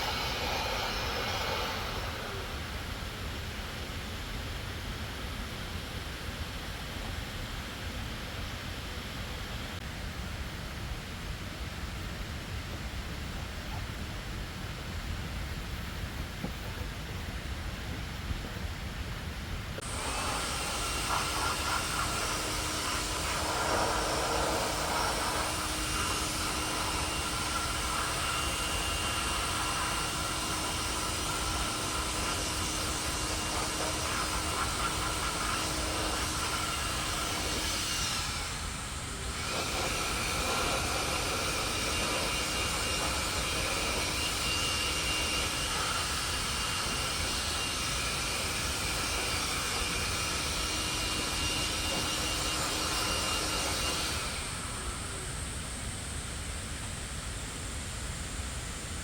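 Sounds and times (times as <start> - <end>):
faint steady whines: 0.0 - 59.0
loud hissing machine noise: 0.0 - 59.0.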